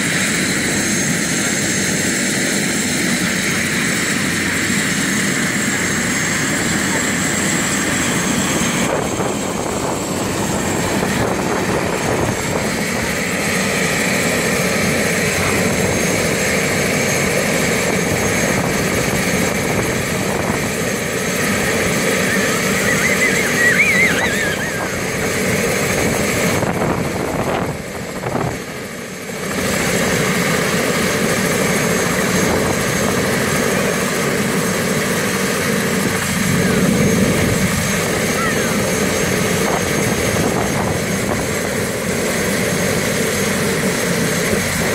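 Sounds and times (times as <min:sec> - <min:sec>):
helicopter turbine and rotor: 0:00.0 - 0:44.9.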